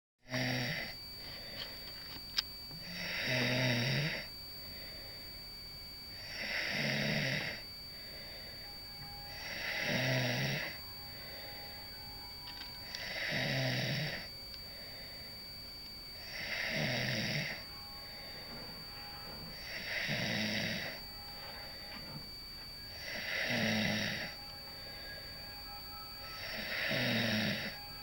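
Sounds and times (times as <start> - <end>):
woman snoring: 0.3 - 1.9, 2.7 - 5.2, 6.1 - 15.4, 16.2 - 18.6, 19.5 - 22.1, 22.8 - 27.9.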